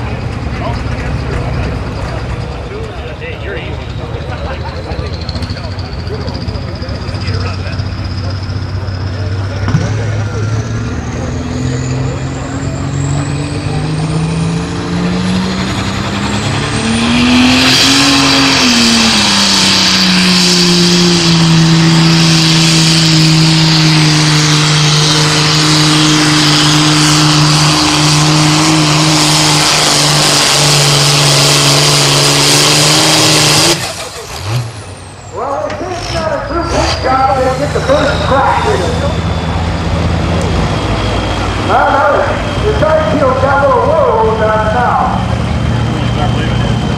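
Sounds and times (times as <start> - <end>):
tractor diesel engine revving: 0.0 - 46.9.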